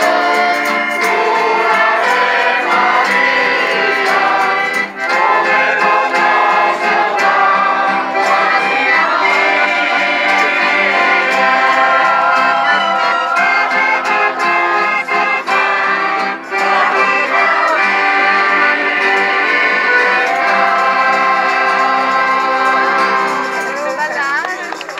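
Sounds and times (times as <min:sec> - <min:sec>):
voices singing along: 0:00.0 - 0:23.6
accordion: 0:00.0 - 0:24.9
strummed acoustic guitars: 0:00.0 - 0:24.9.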